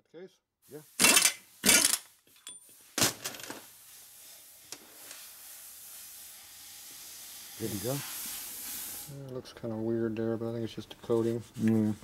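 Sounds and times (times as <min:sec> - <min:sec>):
faint steady hiss: 0:00.6 - 0:12.0.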